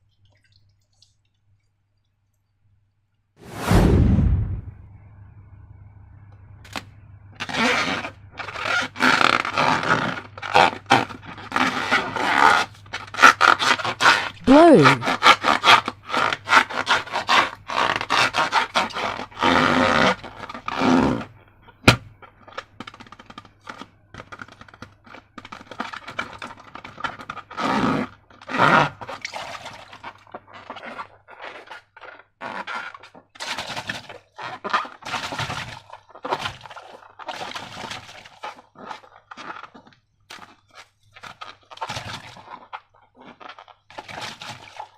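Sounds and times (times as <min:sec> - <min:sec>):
hands scraping slime and balloons: 0:07.4 - 0:44.9.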